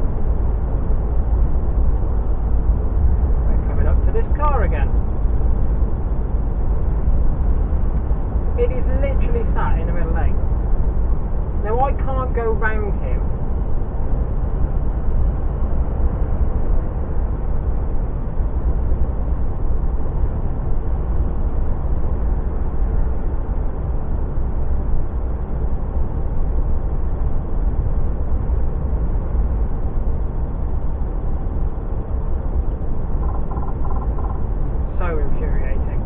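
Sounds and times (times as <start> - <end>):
lorry cab engine and road rumble: 0.0 - 36.0.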